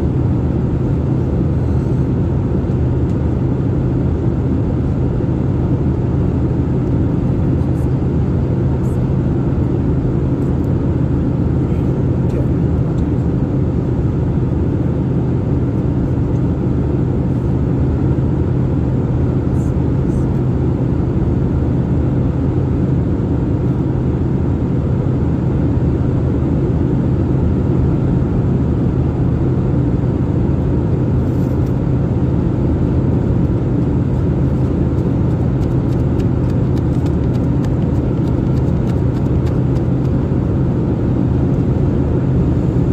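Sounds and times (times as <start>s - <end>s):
airliner cabin engine drone: 0.0s - 42.9s.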